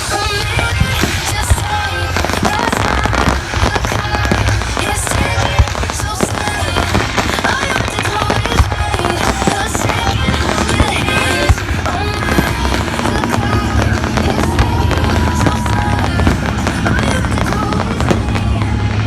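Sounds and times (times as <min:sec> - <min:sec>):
fireworks bangs and crackles: 0:00.0 - 0:19.0
music with heavy bass: 0:00.0 - 0:19.0.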